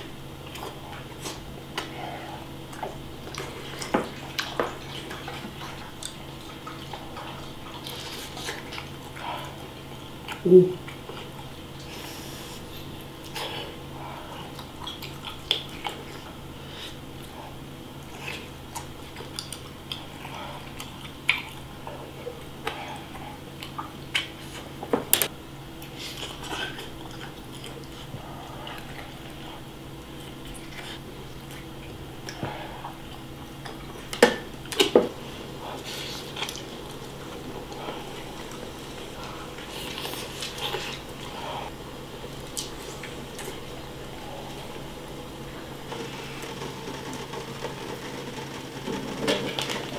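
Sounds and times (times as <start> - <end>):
faint hum: 0.0 - 49.9.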